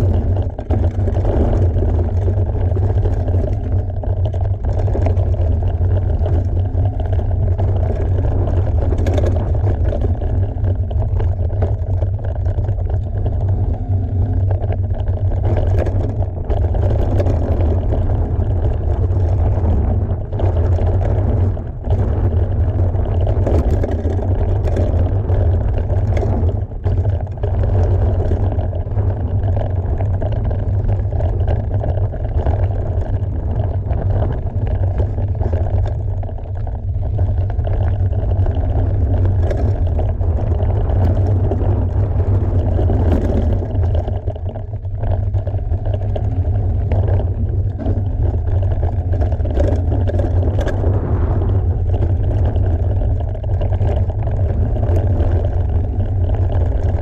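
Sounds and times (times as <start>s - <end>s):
bike tyres rumbling and rattling: 0.0s - 57.0s
wind rush on microphone: 0.0s - 57.0s.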